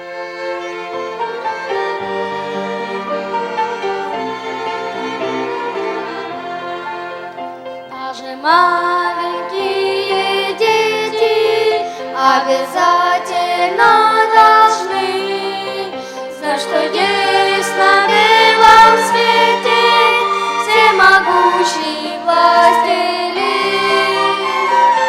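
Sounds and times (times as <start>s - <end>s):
orchestra playing hymn introduction: 0.0s - 25.0s.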